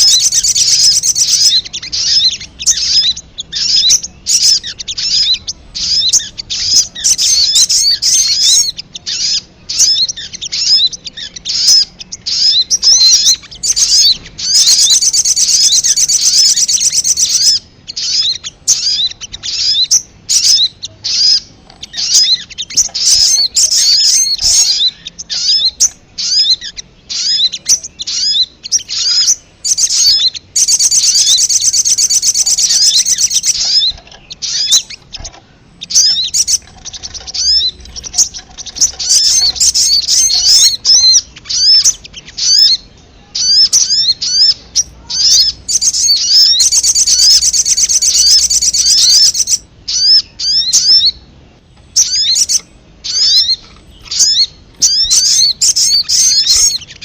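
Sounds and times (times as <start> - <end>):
sharp high bird chirps: 0.0 - 51.3, 51.9 - 57.0.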